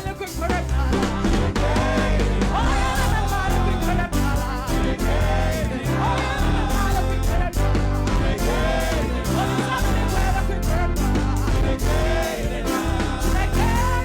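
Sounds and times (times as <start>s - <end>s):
drum hits: 0.0s - 14.0s
live band with bass: 0.0s - 14.0s
person singing: 0.0s - 14.0s.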